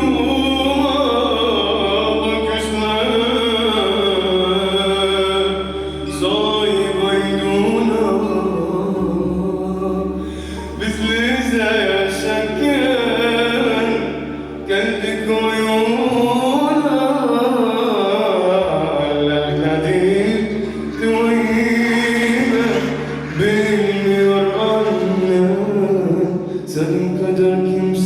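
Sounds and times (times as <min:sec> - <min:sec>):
steady low drone: 0:00.0 - 0:27.9
man singing ornamented notes: 0:00.0 - 0:28.0.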